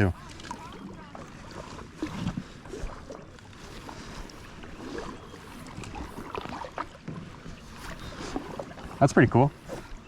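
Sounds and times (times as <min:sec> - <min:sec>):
water splashing around kayak: 0:00.0 - 0:10.0.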